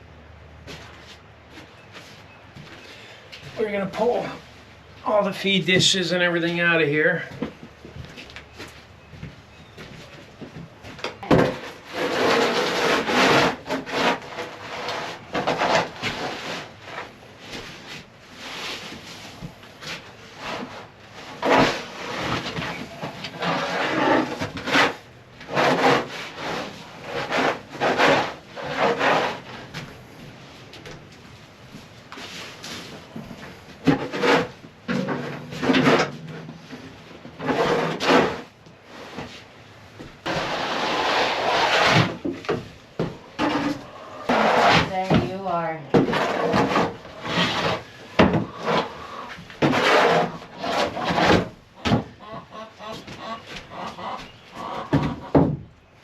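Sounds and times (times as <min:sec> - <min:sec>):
scraping on wooden floor: 0:07.2 - 0:55.6.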